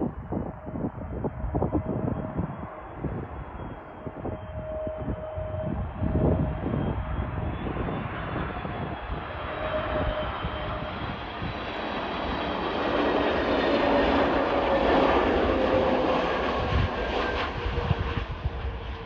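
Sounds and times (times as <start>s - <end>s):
jet engines rushing and whining: 0.0s - 19.0s.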